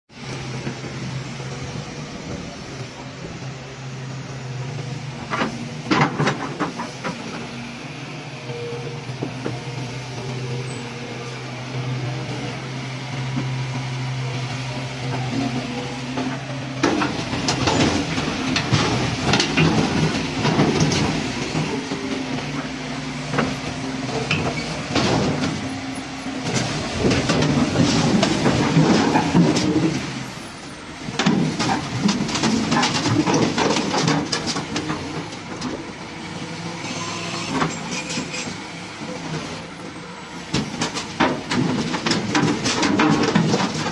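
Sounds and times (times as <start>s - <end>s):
diesel excavator engines: 0.1s - 43.9s.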